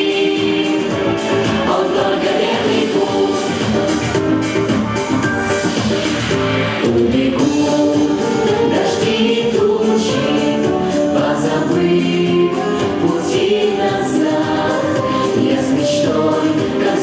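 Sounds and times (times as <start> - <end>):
group of voices singing: 0.0 - 4.3, 6.7 - 17.0
instrumental backing track: 0.0 - 17.0.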